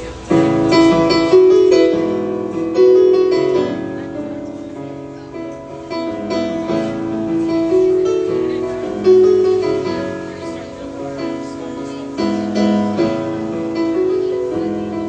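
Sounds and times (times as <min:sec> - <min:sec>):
keyboard notes and chords: 0:00.0 - 0:15.0.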